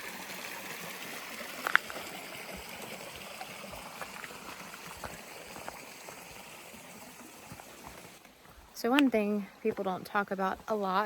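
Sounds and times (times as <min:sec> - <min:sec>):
stream running: 0:00.0 - 0:11.0.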